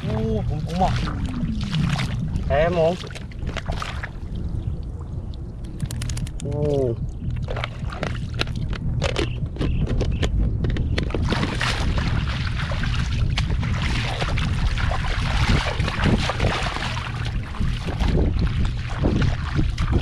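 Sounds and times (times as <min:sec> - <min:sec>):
water splashing and sloshing: 0:00.0 - 0:20.0
wind buffeting microphone: 0:00.0 - 0:20.0.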